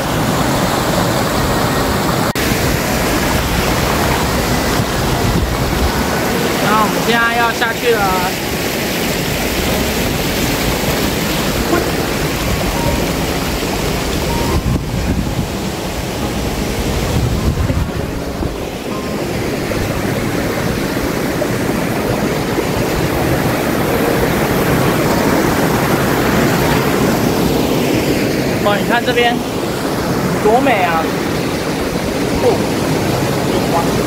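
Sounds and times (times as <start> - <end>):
wind rumbling on microphone: 0.0 - 6.8, 8.4 - 34.0
stream rushing over rocks: 0.0 - 34.0.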